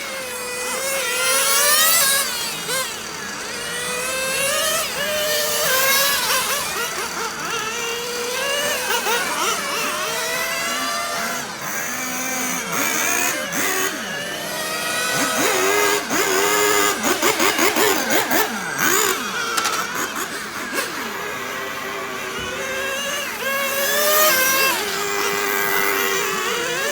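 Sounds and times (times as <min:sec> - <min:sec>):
rc car nitro engines revving: 0:00.0 - 0:26.9.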